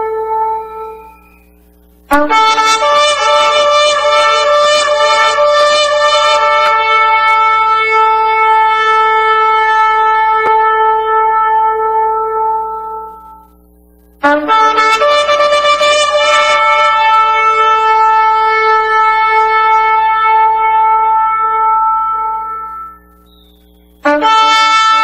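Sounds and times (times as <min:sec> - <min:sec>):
shofar blasts: 0:00.0 - 0:13.6, 0:14.2 - 0:23.3, 0:24.0 - 0:25.0.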